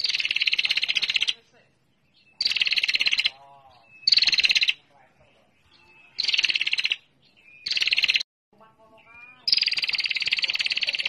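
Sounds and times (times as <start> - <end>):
bird chattering trills: 0.0 - 8.2, 8.8 - 11.0.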